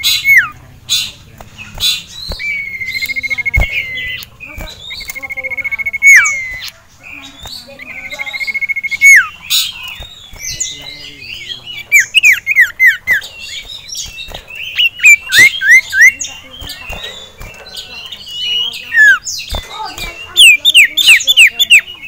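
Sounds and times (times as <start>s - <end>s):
bird singing trills and whistles: 0.0s - 22.0s
bird clicks: 0.2s - 21.9s.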